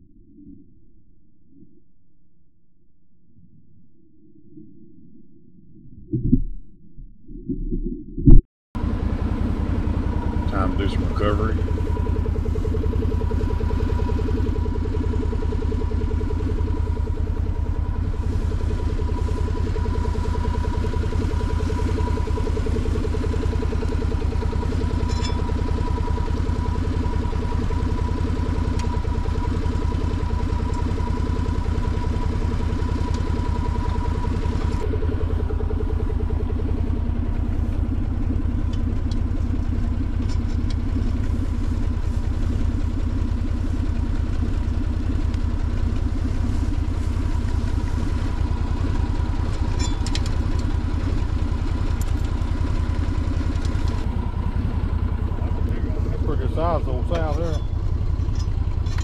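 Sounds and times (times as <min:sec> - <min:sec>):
utility vehicle engine idling: 0:08.8 - 0:59.0.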